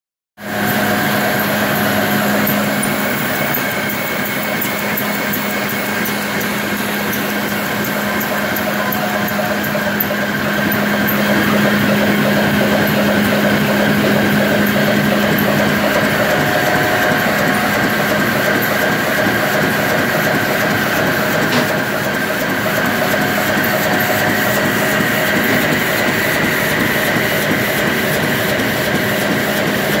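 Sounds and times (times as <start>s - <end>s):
machine humming and ticking: 0.4s - 30.0s.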